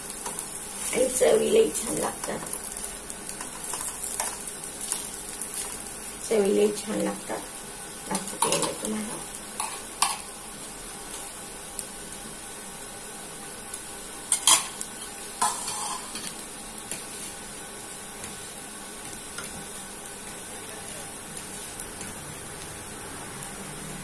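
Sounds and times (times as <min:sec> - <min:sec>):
food sizzling on griddle: 0:00.0 - 0:24.0.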